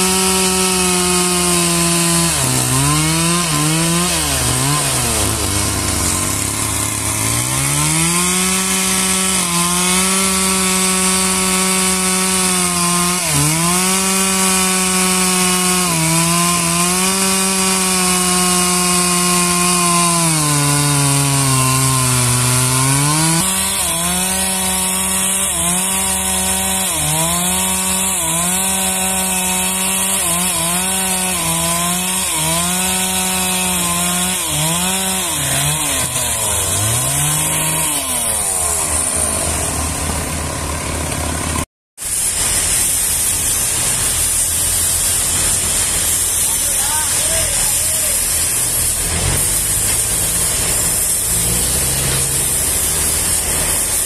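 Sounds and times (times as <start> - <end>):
engine-driven saw cutting timber: 0.0 - 54.0.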